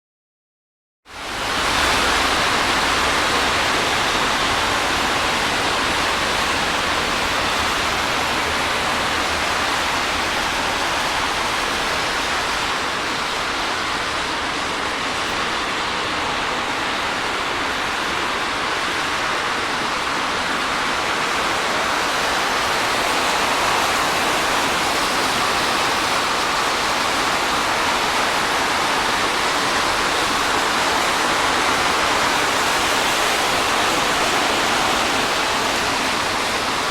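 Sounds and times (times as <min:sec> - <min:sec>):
rain on pavement: 0:01.1 - 0:36.9
tyres hissing on wet road: 0:01.1 - 0:36.9.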